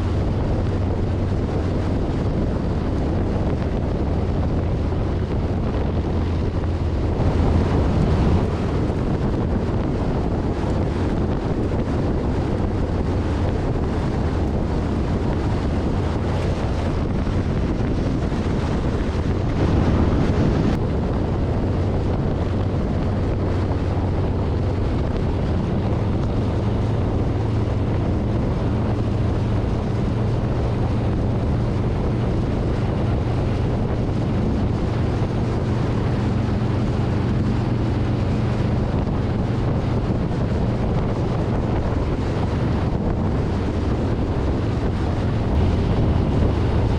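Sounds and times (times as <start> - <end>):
motorcycle engine droning: 0.0 - 46.9
wind buffeting microphone: 0.0 - 46.9.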